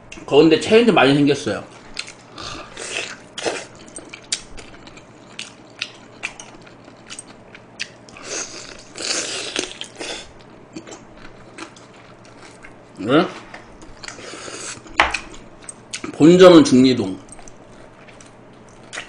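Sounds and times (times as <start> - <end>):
chewing and gnawing meat: 1.7 - 16.1, 17.2 - 19.0.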